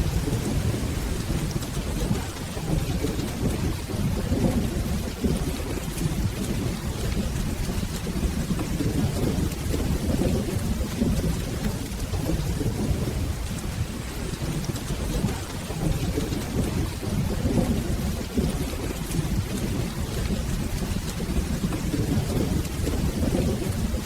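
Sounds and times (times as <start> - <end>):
faint crackles: 0.0 - 24.0
rolling thunder rumble: 0.0 - 24.0
steady rain: 0.0 - 24.0.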